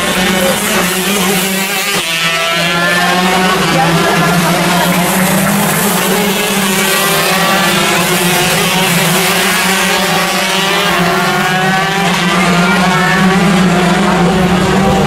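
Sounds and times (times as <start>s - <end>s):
kart engines racing: 0.0s - 15.0s.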